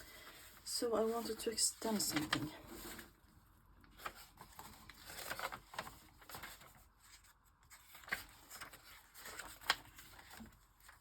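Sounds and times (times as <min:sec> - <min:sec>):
paper rustling: 0:00.0 - 0:03.3, 0:03.9 - 0:11.0.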